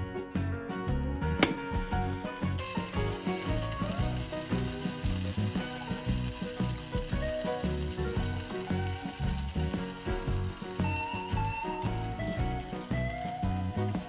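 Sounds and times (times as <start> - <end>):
background music with steady beat: 0.0 - 14.0
ribs sizzling: 1.4 - 14.0.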